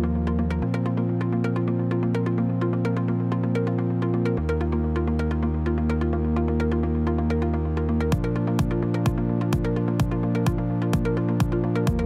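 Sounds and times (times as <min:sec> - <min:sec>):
electronic background music: 0:00.0 - 0:12.0.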